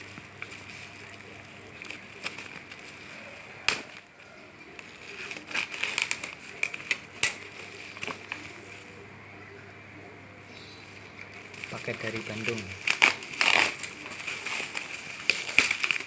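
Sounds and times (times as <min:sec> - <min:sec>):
packaging crinkling and rustling: 0:00.0 - 0:09.1, 0:10.8 - 0:16.0.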